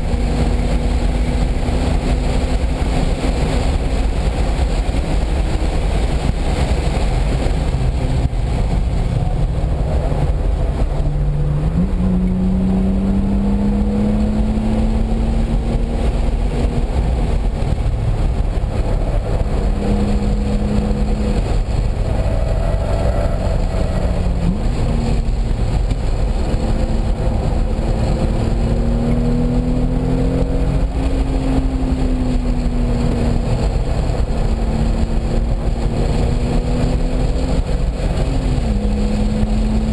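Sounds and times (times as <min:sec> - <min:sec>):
racing car engine: 0:00.0 - 0:39.9
wind and road noise: 0:00.0 - 0:39.9.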